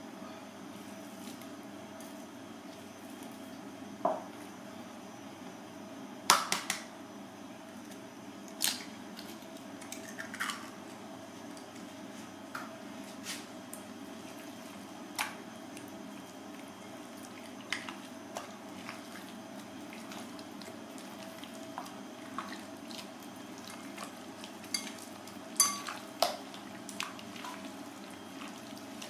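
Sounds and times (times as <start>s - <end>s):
background hiss and hum: 0.0s - 29.0s.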